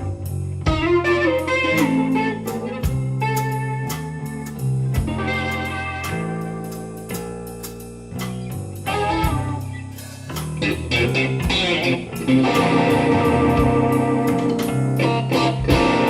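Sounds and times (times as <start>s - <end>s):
bass guitar: 0.0s - 16.0s
drum kit: 0.0s - 16.0s
electric guitar lead: 0.0s - 16.0s.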